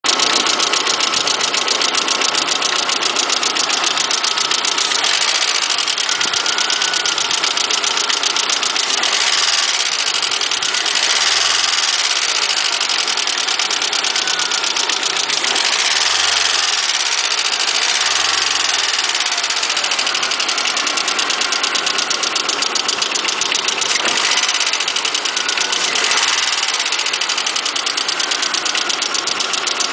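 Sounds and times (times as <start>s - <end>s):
engine running with clatter: 0.0s - 29.9s.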